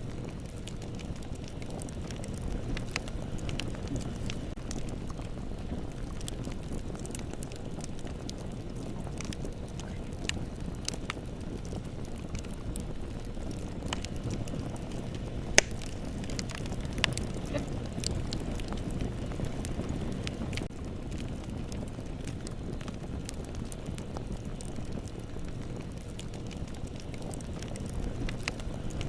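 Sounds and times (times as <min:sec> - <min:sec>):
bonfire rumbling: 0:00.0 - 0:29.0
fire crackles and snaps: 0:00.0 - 0:29.0
loud fire pops: 0:00.0 - 0:29.0.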